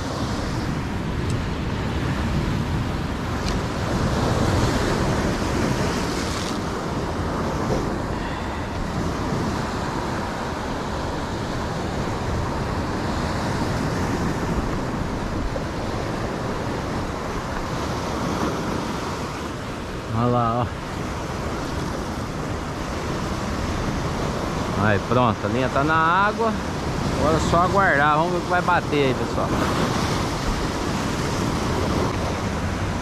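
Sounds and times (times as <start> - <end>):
surf breaking on rocks: 0.0 - 33.0.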